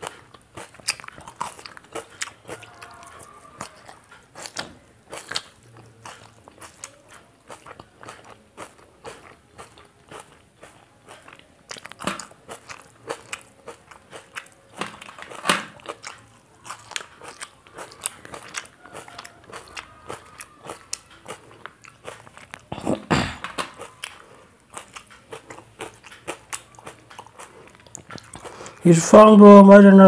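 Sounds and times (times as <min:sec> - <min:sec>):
person chewing and crunching: 0:00.0 - 0:29.3.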